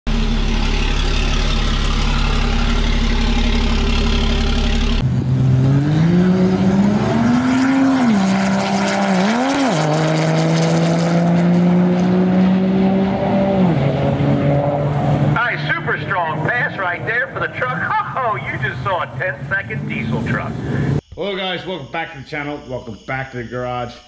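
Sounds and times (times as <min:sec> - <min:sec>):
diesel truck engine revving: 0:00.1 - 0:21.0.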